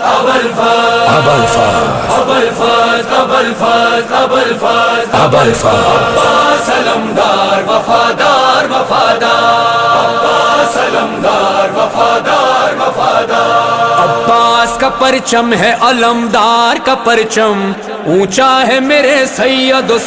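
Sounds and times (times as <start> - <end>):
voices chanting a lament: 0.0 - 20.0.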